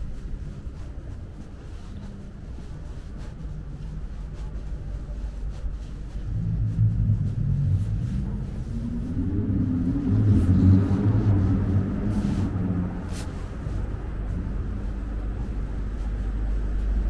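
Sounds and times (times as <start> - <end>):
low street rumble: 0.0 - 17.0
vehicle engine running: 2.5 - 17.0.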